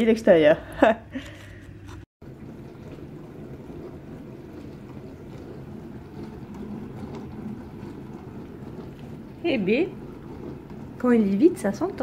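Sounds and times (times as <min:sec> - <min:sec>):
dishwasher water spraying and sloshing: 0:02.2 - 0:12.0.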